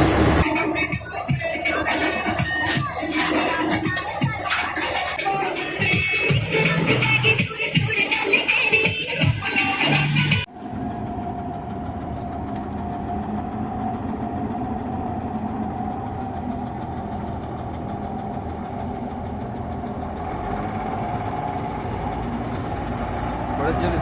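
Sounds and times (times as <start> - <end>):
combine harvester engine drone: 0.0 - 24.0
steady machine whine: 0.0 - 24.0.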